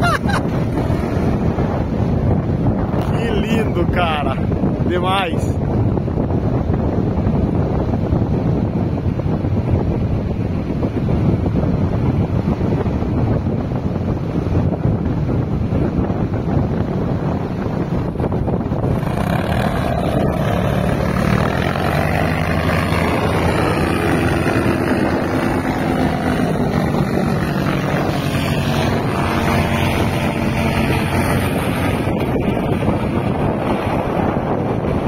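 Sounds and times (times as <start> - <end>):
paratrike engine and propeller: 0.0 - 35.0
wind buffeting microphone: 0.0 - 35.0.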